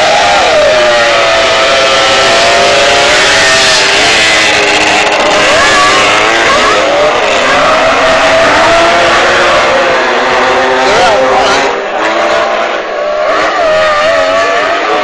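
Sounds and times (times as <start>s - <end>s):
racing engines at full throttle: 0.0s - 15.0s.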